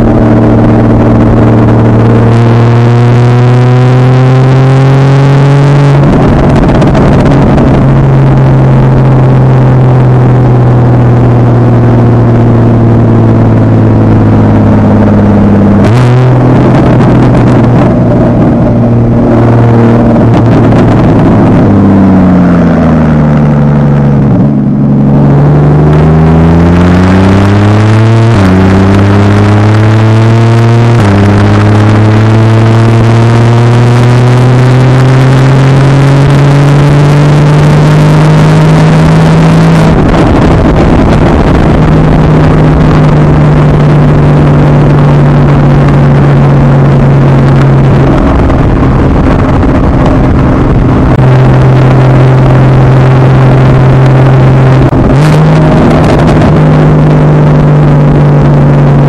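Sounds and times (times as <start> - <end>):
car engine cruising: 0.0 - 59.0.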